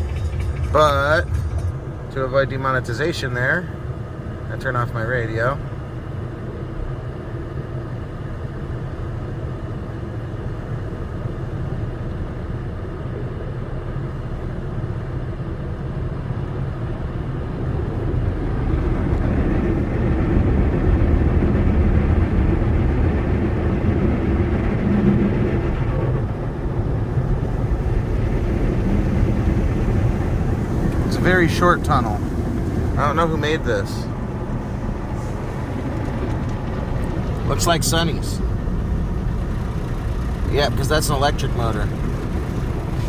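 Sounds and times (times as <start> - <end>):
car wash rumble inside car: 0.0 - 43.0.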